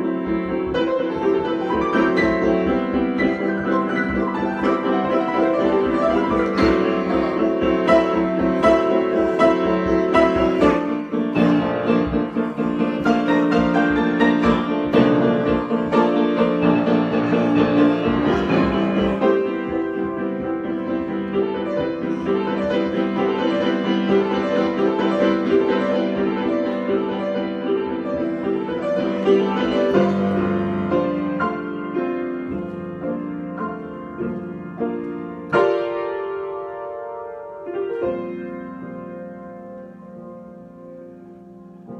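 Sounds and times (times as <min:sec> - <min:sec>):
piano improvisation: 0:00.0 - 0:41.9.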